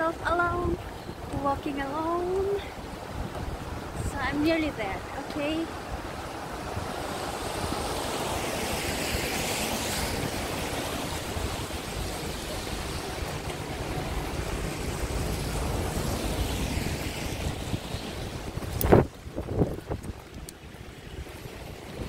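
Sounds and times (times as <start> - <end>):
rain hiss: 0.0 - 22.0
traffic on wet roads: 0.0 - 22.0
wind rumble on microphone: 0.0 - 22.0.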